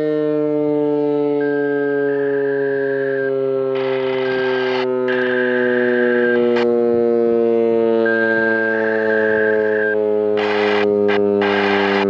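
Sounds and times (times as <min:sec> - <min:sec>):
electronic siren buzzy tone: 0:00.0 - 0:12.0
higher siren tone: 0:00.0 - 0:12.0.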